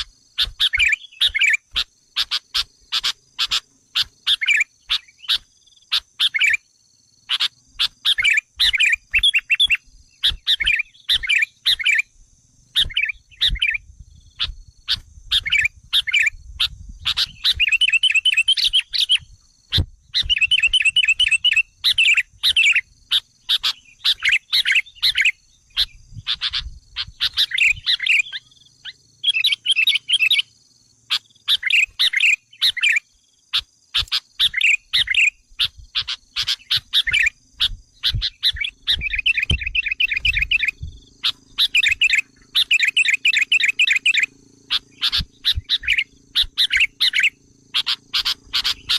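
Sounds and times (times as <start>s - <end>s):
bird chattering calls and trills: 0.0s - 48.9s.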